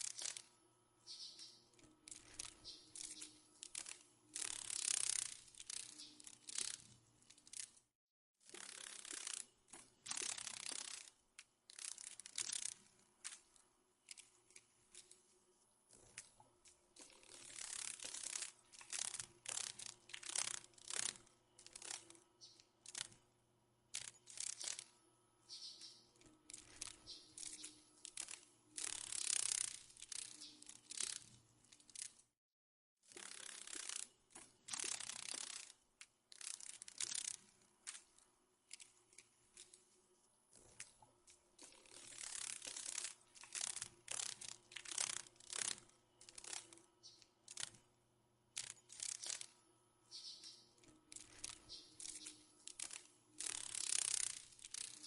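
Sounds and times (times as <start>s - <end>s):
papery wing crackling and rattling: 0.0s - 0.5s, 1.1s - 7.8s, 8.4s - 23.2s, 23.9s - 32.2s, 33.1s - 47.9s, 48.5s - 55.0s.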